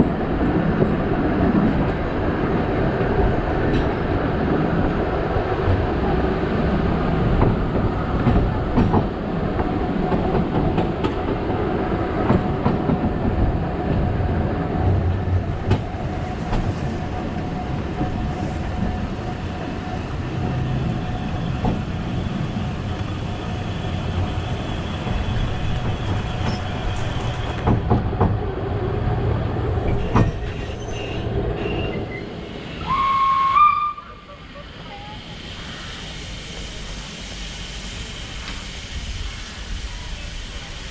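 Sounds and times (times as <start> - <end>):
rail clicks: 0.0 - 40.9
steam train rumbling on track: 0.0 - 40.9.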